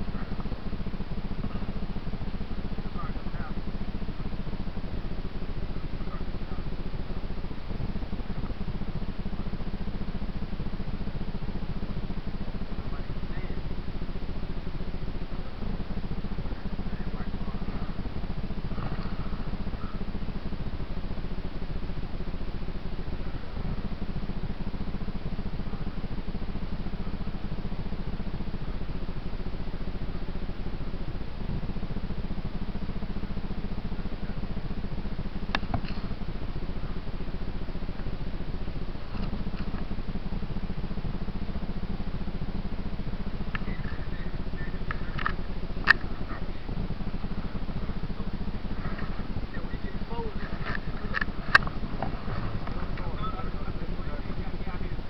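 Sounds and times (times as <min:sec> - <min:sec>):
dirt bike engine idling: 0:00.0 - 0:55.0.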